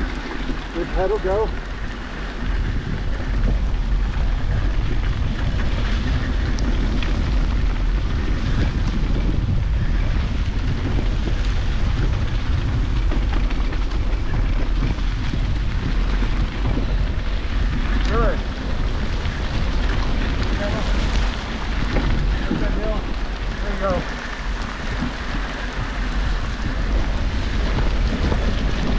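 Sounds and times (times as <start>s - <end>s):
bike ticking: 0.0s - 28.9s
rain and hail pattering: 0.0s - 28.9s
wind buffeting microphone: 0.0s - 28.9s.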